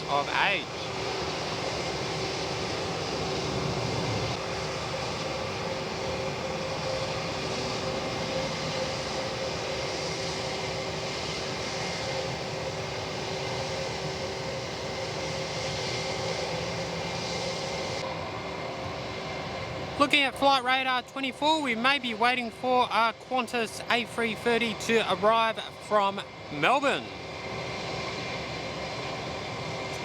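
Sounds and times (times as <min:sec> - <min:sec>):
jet engines idling: 0:00.0 - 0:30.0.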